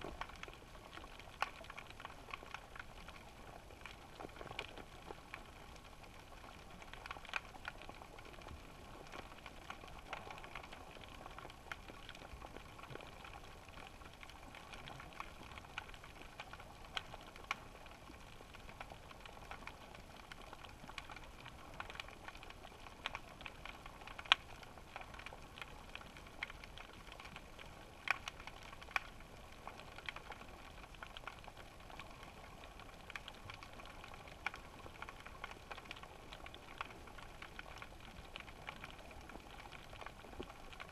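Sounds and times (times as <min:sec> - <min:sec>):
sharp clicks and crackles: 0:00.0 - 0:40.9.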